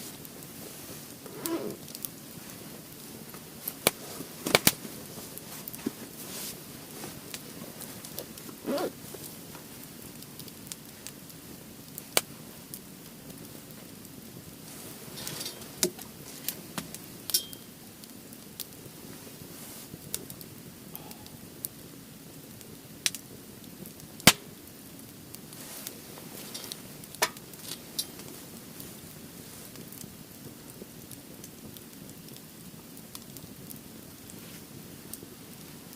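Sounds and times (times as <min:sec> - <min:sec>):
firewood crackling and popping: 0:00.0 - 0:35.9.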